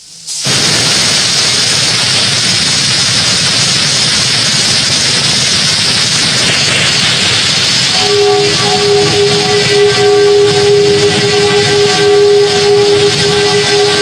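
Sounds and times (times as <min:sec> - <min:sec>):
roaring hiss with low rumble: 0:00.0 - 0:14.0.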